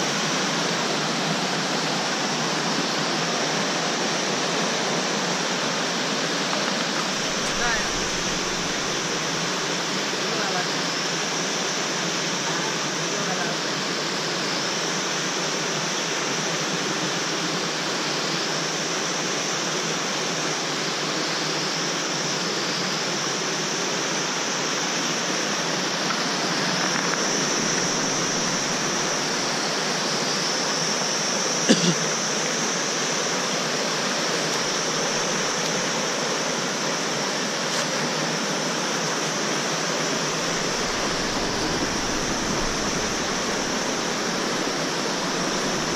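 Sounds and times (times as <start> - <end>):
stream rushing over boulders: 0.0 - 14.2, 15.0 - 45.9.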